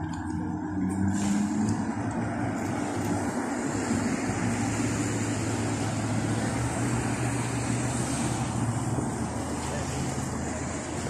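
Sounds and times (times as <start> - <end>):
broad rushing noise: 0.0 - 11.0
motor engines droning: 0.0 - 11.0.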